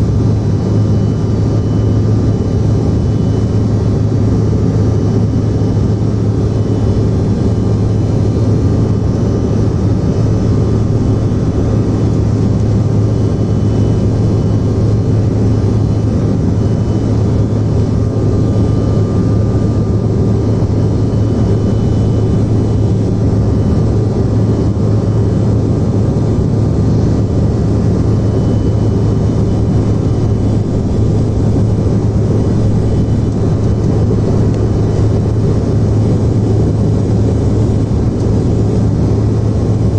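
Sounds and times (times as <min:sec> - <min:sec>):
aircraft cabin engine roar: 0:00.0 - 0:39.9.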